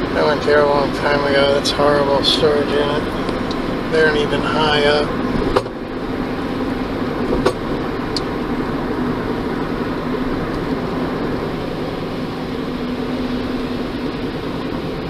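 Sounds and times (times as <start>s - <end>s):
car engine and tyre road noise: 0.0s - 15.0s.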